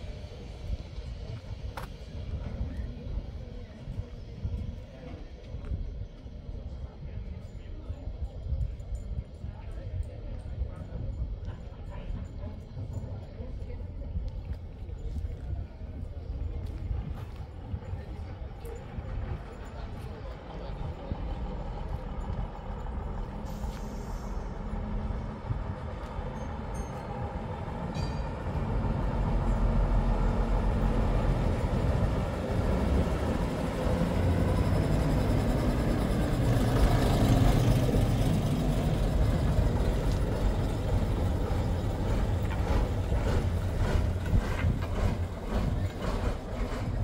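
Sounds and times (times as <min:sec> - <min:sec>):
vehicle low rumble: 0:00.0 - 0:47.0.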